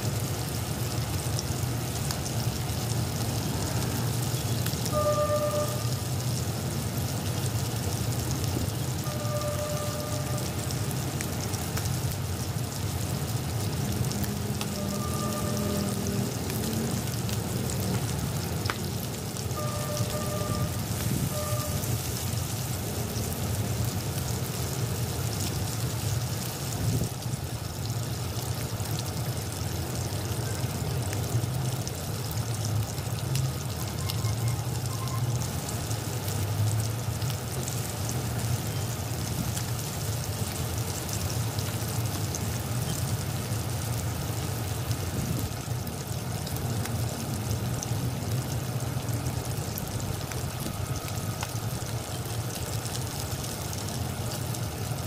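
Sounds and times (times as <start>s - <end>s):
pork frying in oil: 0.0s - 55.0s.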